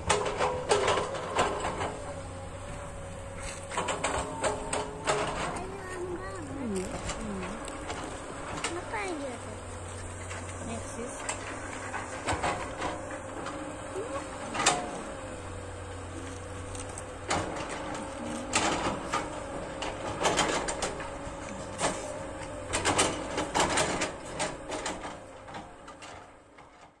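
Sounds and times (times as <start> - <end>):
excavator bucket clanking: 0.0 - 27.0
excavator engine humming: 0.0 - 27.0.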